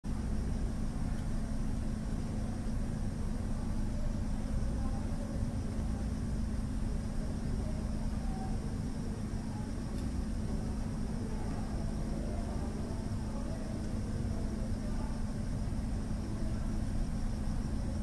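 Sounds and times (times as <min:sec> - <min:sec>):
constant hum: 0:00.0 - 0:18.0
low background rumble: 0:00.1 - 0:18.0.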